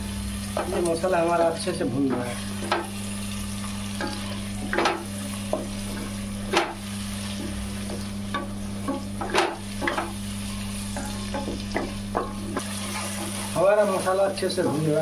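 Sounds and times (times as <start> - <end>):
oil sizzling: 0.0 - 15.0
steady low hum: 0.0 - 15.0.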